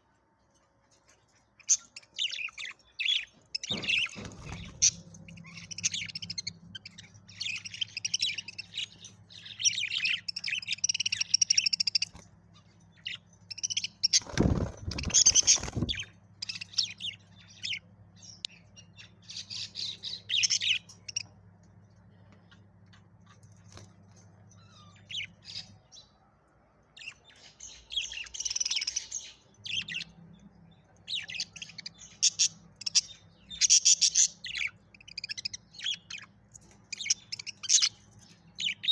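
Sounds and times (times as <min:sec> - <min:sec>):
low steady hum: 0:00.0 - 0:38.9
budgerigars chirping: 0:01.6 - 0:21.3, 0:27.0 - 0:38.9.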